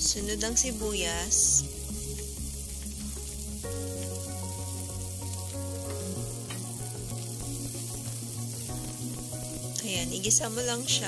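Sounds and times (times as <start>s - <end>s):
onion and garlic sizzling in oil: 0.0s - 11.0s
soft background music: 0.0s - 11.0s.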